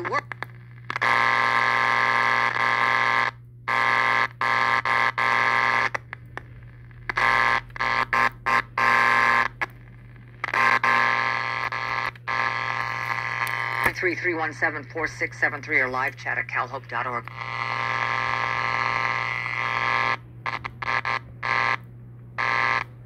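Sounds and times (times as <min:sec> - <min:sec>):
radio speaker harsh buzz: 0:00.0 - 0:23.0
steady low hum: 0:00.0 - 0:23.0.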